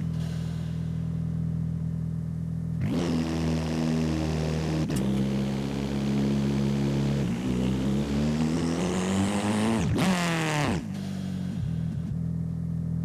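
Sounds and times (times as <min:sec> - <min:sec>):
video game car engine: 0:00.0 - 0:02.2, 0:02.8 - 0:13.0.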